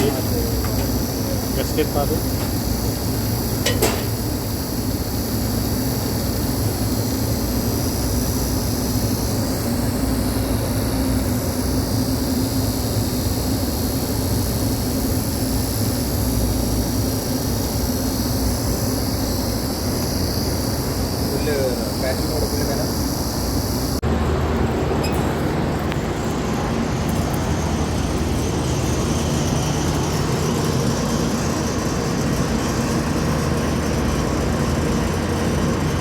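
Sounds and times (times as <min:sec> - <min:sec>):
air conditioning droning: 0:00.0 - 0:36.0.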